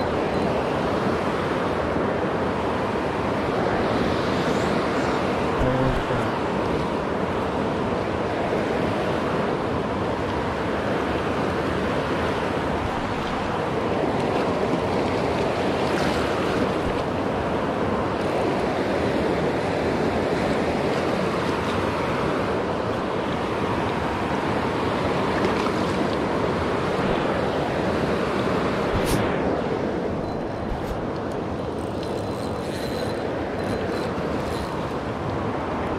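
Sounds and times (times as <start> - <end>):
river rushing over rocks: 0.0 - 35.9.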